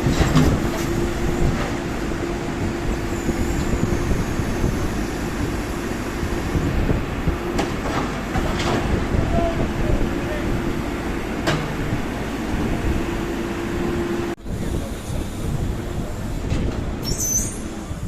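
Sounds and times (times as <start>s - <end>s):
road-works machinery drone: 0.0s - 18.0s.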